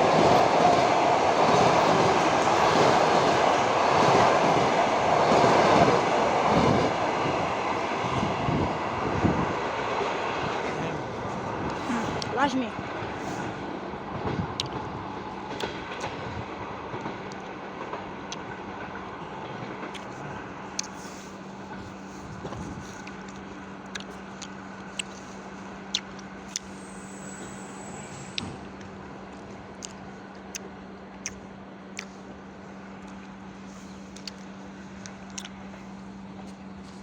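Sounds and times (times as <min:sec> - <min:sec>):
train running noise: 0:00.0 - 0:37.0.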